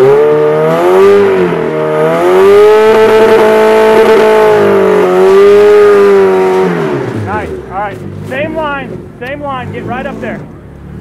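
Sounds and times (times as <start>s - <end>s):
engine revving at high revs: 0.0s - 11.0s.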